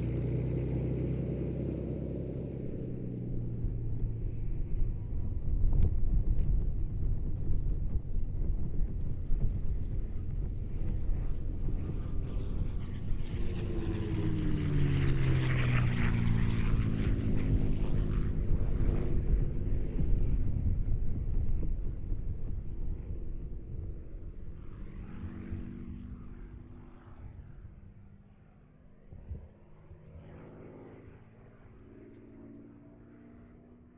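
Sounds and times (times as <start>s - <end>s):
propeller plane flying past: 0.0s - 33.9s.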